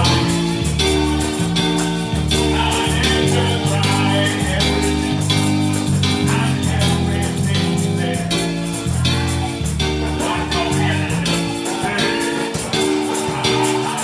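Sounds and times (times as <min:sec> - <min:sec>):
bass notes: 0:00.0 - 0:11.6
keyboard notes: 0:00.0 - 0:14.0
percussion beat: 0:00.0 - 0:14.0.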